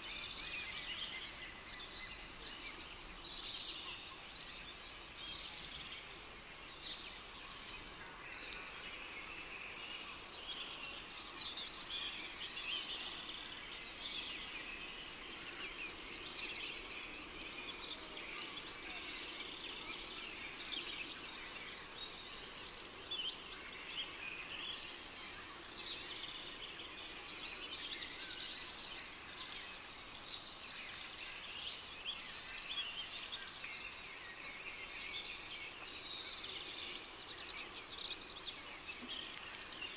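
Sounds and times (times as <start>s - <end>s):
bird calls and chirps: 0.0s - 39.9s.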